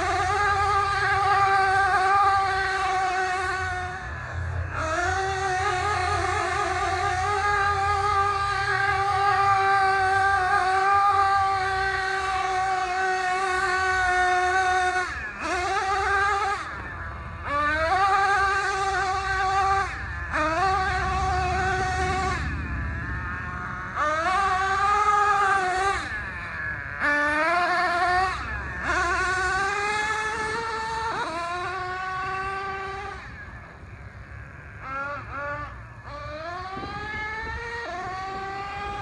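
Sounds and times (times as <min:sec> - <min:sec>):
rc truck nitro engine revving: 0:00.0 - 0:39.0.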